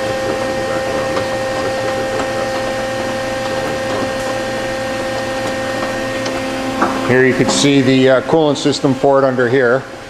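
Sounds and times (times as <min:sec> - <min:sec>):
machining center humming: 0:00.0 - 0:10.0
steady tones: 0:01.2 - 0:10.0.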